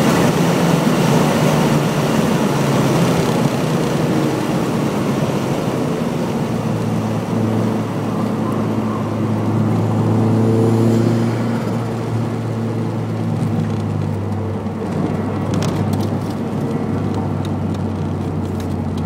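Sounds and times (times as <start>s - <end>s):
car engine droning in cabin: 0.0s - 19.0s
tyre and road noise: 0.0s - 19.0s.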